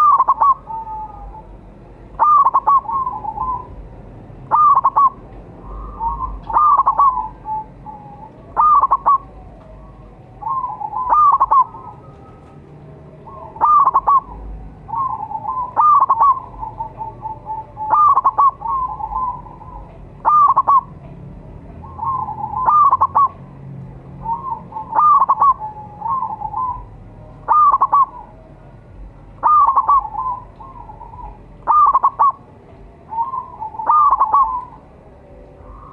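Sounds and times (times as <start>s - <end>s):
dove cooing: 0.0s - 23.6s, 24.2s - 32.5s, 33.1s - 35.9s.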